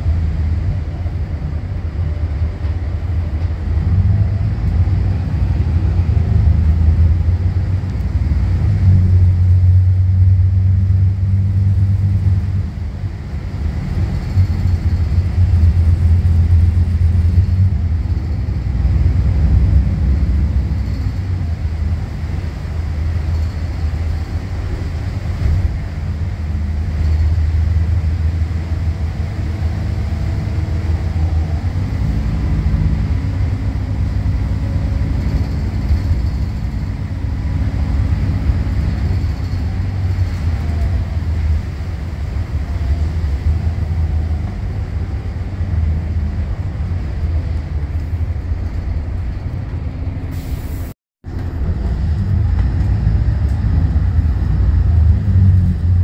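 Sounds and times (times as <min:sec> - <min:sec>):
drivetrain whine: 0:00.0 - 0:50.3, 0:51.2 - 0:56.0
bus diesel engine rumble: 0:00.0 - 0:56.0.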